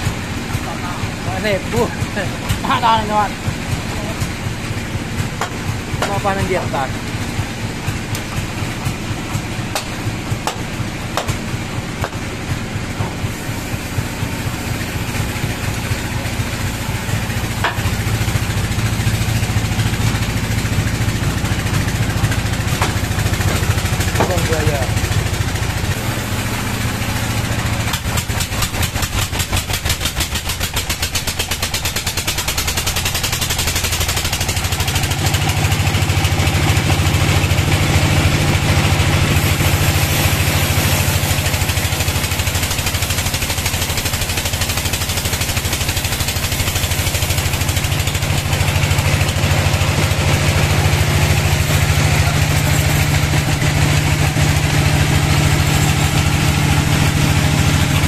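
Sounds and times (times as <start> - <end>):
band saw cutting log: 5.2 - 7.5, 8.1 - 58.0.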